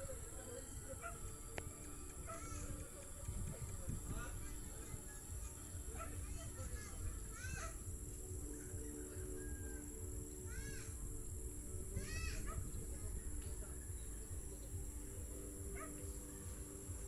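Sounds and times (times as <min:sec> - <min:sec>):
faint steady hum: 0:00.0 - 0:17.0
wind rumble on microphone: 0:00.0 - 0:17.0.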